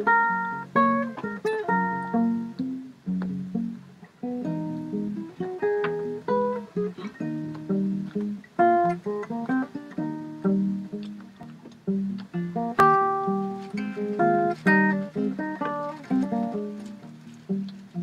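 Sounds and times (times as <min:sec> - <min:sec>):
acoustic guitar fingerstyle: 0:00.0 - 0:18.0.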